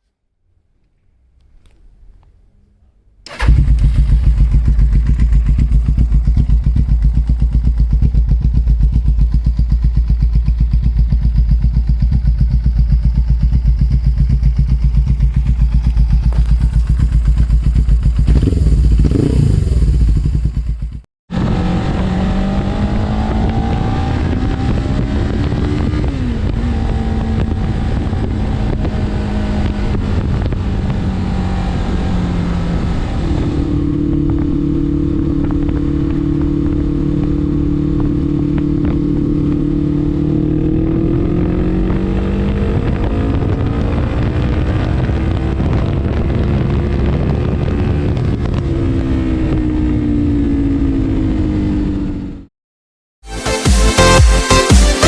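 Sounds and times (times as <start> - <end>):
motorcycle engine running: 3.3 - 52.5.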